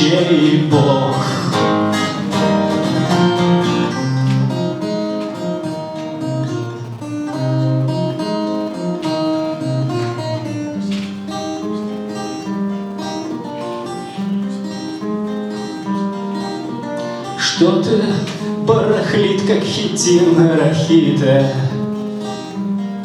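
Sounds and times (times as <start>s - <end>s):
acoustic guitar strumming and picking: 0.0s - 23.0s.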